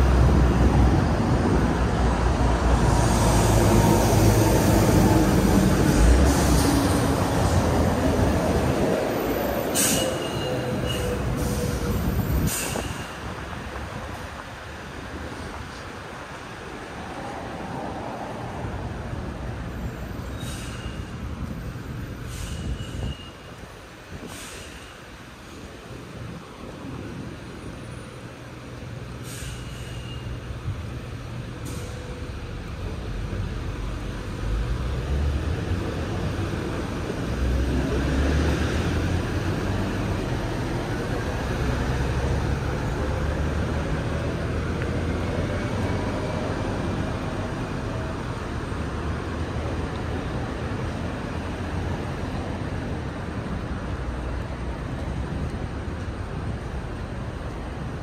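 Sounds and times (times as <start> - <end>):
heavy engine: 0.0 - 58.0
rumble of passing vehicles: 0.0 - 58.0.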